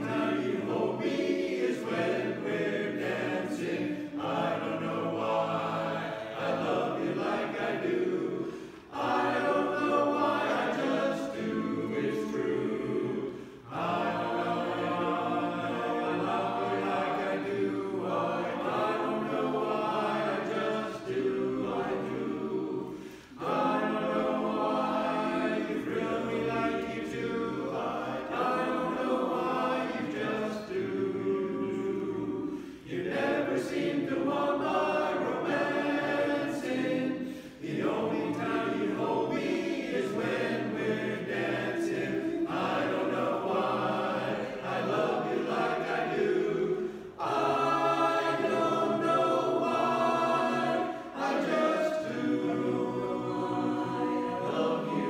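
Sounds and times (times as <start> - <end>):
chorus singing a cappella: 0.0 - 55.0.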